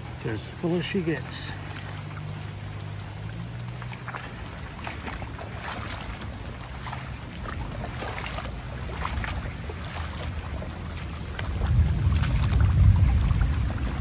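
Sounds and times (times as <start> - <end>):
light splashy ticks: 0.0 - 14.0
wind rumbling on microphone: 1.6 - 14.0.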